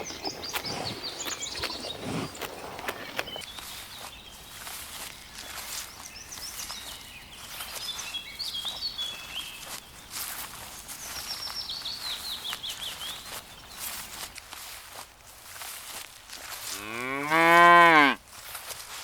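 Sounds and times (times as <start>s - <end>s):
small birds chirping: 0.0s - 17.9s
rustling in vegetation: 0.0s - 19.0s.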